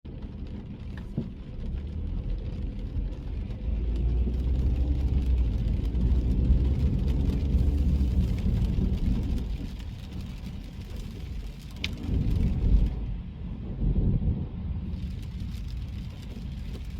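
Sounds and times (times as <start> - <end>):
car engine and tyres rumbling: 0.0 - 16.9
faint rain ticks: 0.1 - 13.1, 14.8 - 16.9.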